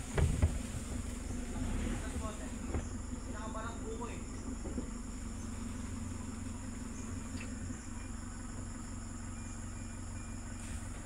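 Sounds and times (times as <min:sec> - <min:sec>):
insects chirring: 0:00.0 - 0:11.0
truck engine humming: 0:00.0 - 0:11.0.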